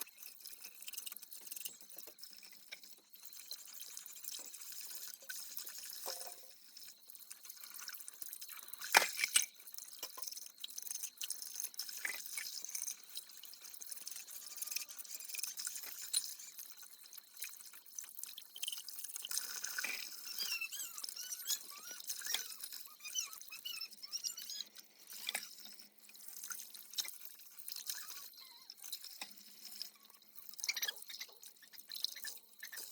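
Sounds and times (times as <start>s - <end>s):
water splashing in sink: 0.4s - 32.9s.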